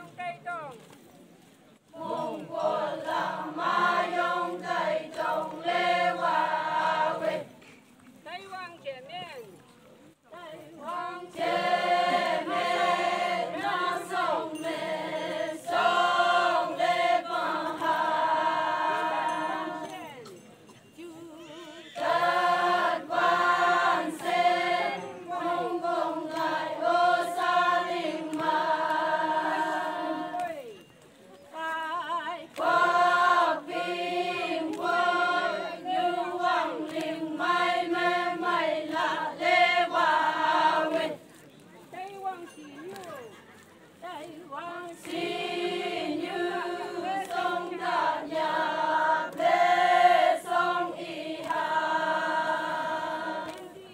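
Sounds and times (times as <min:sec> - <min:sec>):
women singing in unison: 0:01.9 - 0:07.6, 0:10.3 - 0:20.3, 0:21.0 - 0:30.8, 0:31.5 - 0:41.2, 0:44.0 - 0:53.9.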